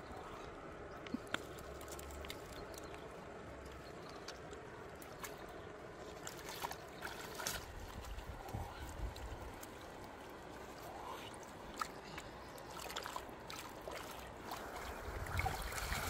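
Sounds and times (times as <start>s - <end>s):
river water lapping: 0.0s - 16.0s.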